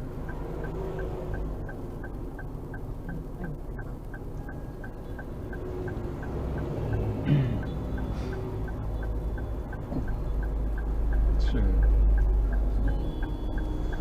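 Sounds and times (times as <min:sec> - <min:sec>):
car engine rumble: 0:00.0 - 0:14.0
regular ticking: 0:00.0 - 0:14.0.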